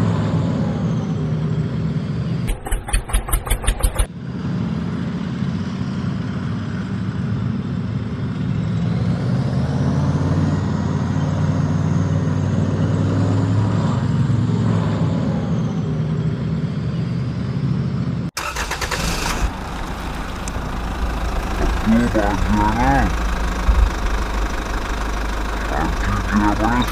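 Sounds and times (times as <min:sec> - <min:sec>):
engine running at low speed: 0:00.0 - 0:26.9.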